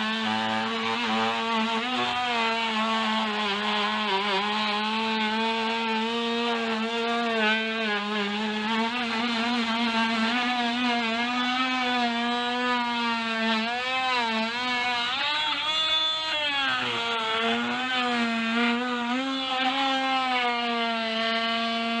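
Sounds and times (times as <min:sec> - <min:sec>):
power tool motor humming: 0:00.0 - 0:22.0.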